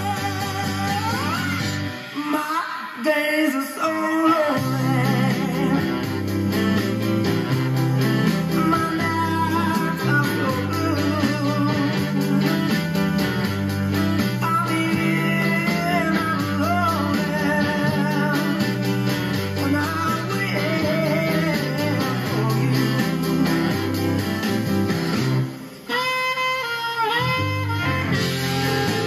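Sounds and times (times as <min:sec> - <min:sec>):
stepping bass line: 0:00.0 - 0:02.0, 0:04.6 - 0:25.8, 0:27.2 - 0:29.0
guitar: 0:00.0 - 0:29.0.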